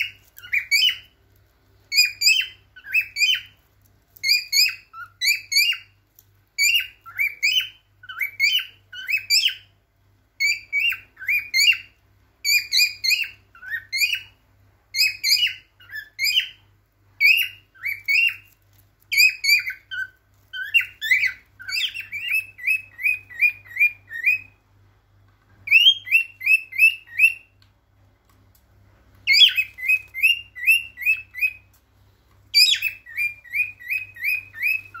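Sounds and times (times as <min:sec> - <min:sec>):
cockatiel chirping and whistling: 0:00.0 - 0:01.2, 0:01.9 - 0:09.8, 0:10.4 - 0:24.6, 0:25.6 - 0:27.6, 0:29.2 - 0:31.7, 0:32.5 - 0:35.0.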